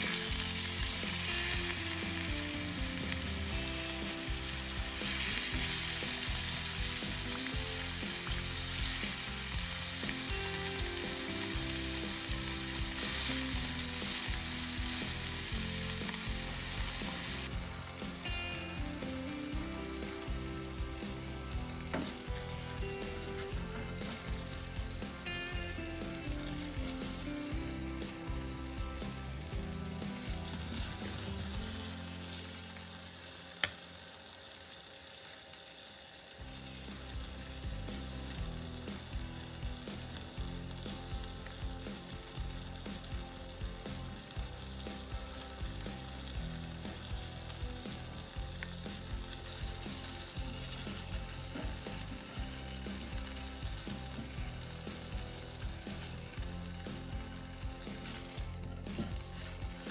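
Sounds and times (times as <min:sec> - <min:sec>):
spatula turning food: 0:00.0 - 0:33.8, 0:36.4 - 0:59.9
chicken sizzling in oil: 0:00.0 - 0:59.9.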